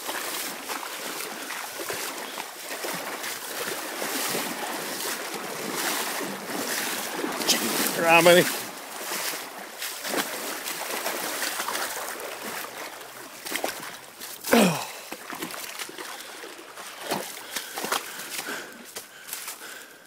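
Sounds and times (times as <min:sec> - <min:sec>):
water sloshing around wading legs: 0:00.0 - 0:20.0.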